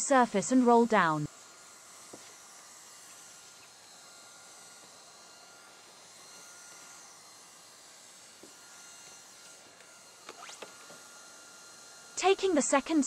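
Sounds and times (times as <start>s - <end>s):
hot air gun blowing: 0.0s - 13.0s.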